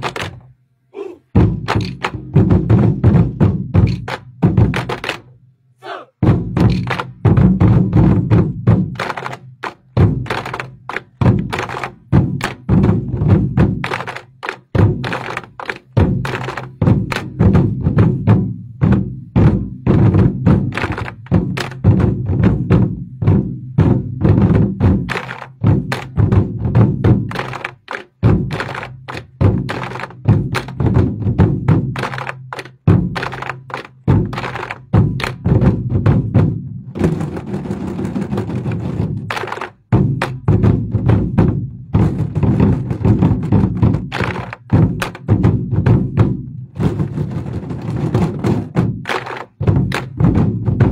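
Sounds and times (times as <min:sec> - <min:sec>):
large drums beaten in unison: 0:00.0 - 0:50.9.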